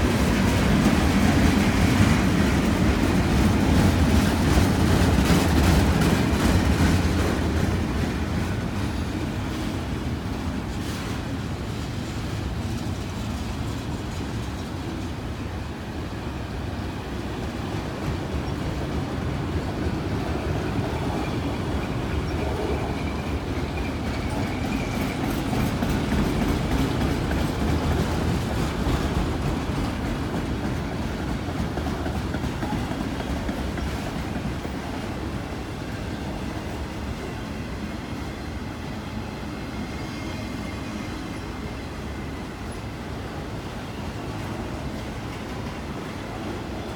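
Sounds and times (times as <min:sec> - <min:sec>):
freight train rolling on rails: 0:00.0 - 0:46.9.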